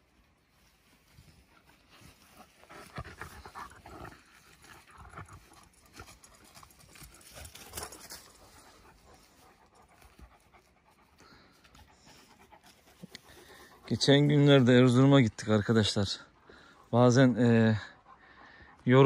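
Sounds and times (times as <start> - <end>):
dog panting: 1.5 - 19.0.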